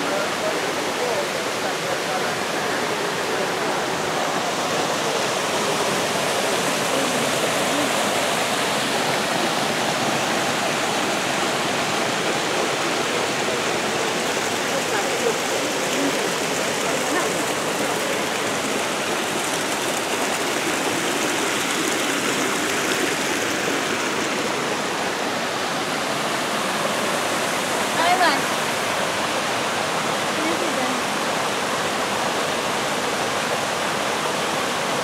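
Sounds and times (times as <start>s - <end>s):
water splashing over rocks: 0.0s - 35.0s.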